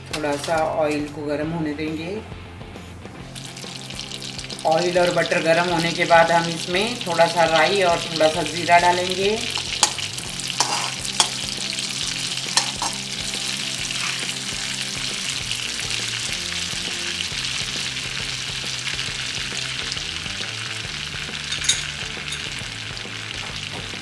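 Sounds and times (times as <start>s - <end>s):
seeds sizzling in hot oil: 3.2s - 24.0s.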